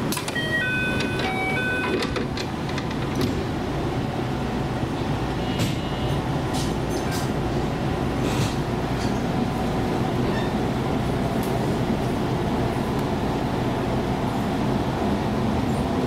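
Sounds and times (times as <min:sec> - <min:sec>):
train motors and wheels rumbling: 0:00.0 - 0:16.0.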